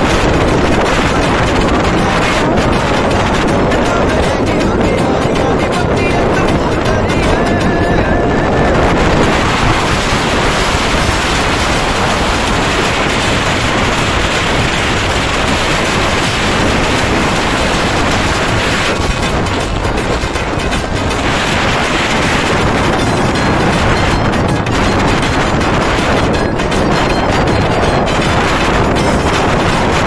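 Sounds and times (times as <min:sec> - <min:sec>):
motorcycle engine and tyre noise: 0:00.0 - 0:30.0
wind rushing over microphone: 0:00.0 - 0:30.0.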